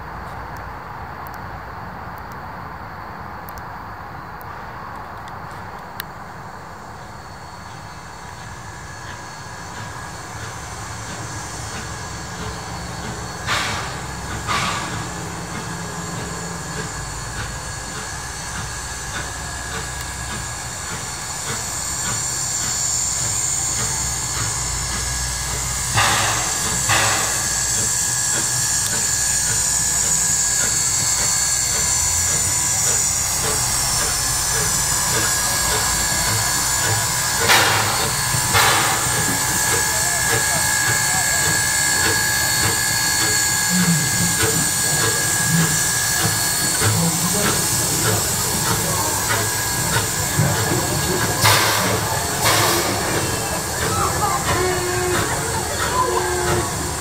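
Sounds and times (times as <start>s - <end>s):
steam locomotive rumble and hiss: 0.0s - 57.0s.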